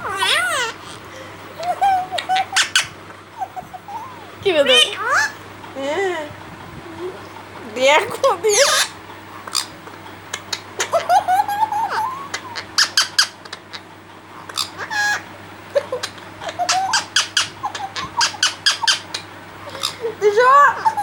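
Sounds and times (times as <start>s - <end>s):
parakeet squeaks and calls: 0.0s - 5.4s, 8.1s - 21.0s.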